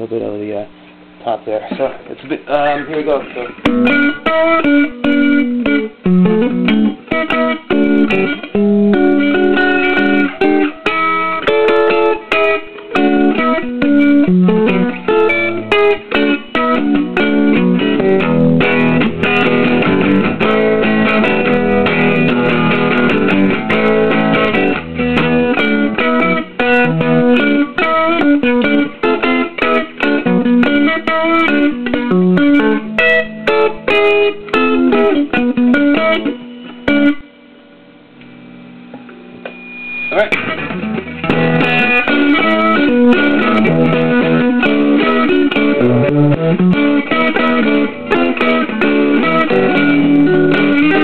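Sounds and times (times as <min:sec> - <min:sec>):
electric guitar playing: 0:00.0 - 0:51.0.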